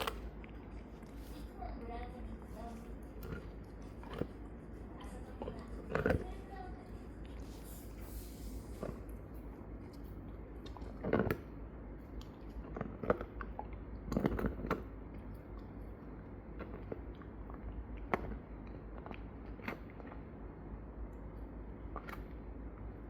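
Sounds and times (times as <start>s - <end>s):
dog gnawing on a bone: 0.0s - 20.5s.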